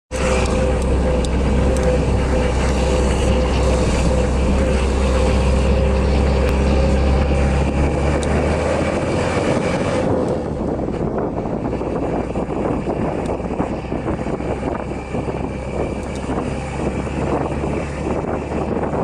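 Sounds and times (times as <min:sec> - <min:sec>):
vehicle engine and road noise: 0:00.1 - 0:19.0.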